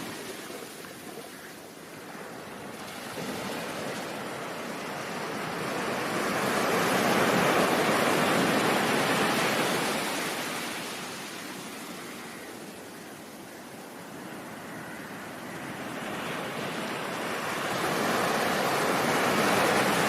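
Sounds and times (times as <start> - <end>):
ocean surf rushing: 0.0 - 12.4, 13.2 - 20.0.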